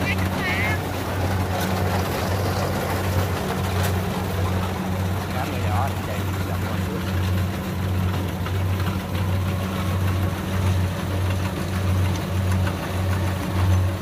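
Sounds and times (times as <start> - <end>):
combine harvester diesel drone: 0.0 - 14.0.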